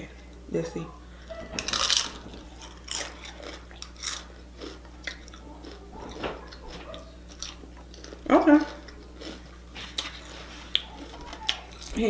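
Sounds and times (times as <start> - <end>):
chips being bitten and chewed: 1.6 - 12.0.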